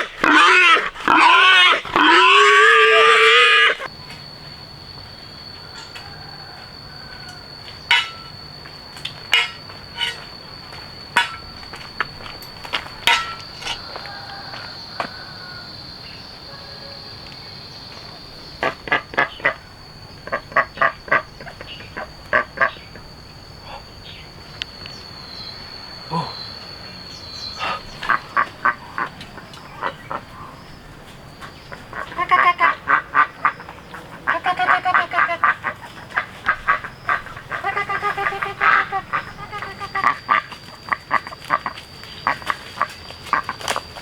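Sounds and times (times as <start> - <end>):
croaking animal calls: 0.0 - 4.0, 9.1 - 10.4, 12.8 - 44.0
high-pitched whine: 0.0 - 44.0.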